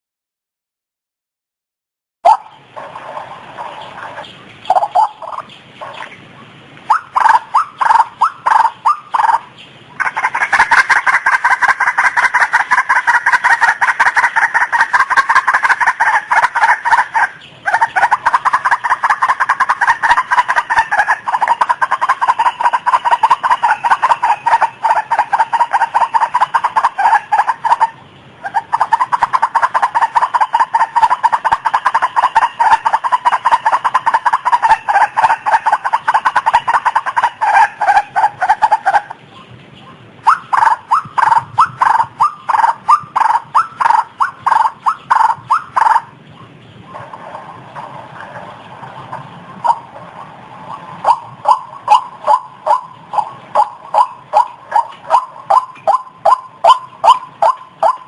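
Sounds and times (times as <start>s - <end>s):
waterhen calling: 2.2s - 58.0s.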